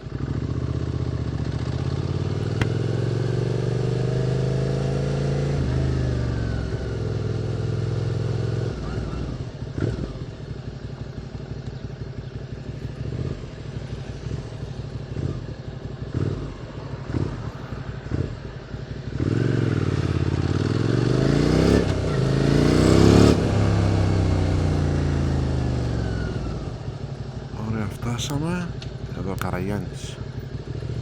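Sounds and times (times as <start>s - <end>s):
motorcycle engine revving: 0.0s - 27.6s, 30.0s - 31.0s.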